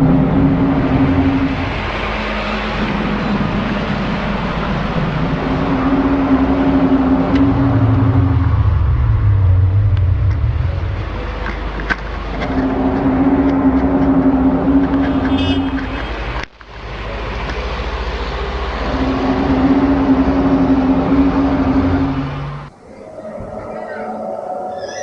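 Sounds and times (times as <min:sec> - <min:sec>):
low rumble: 0:00.0 - 0:25.0
trumpet-like drone: 0:00.0 - 0:25.0.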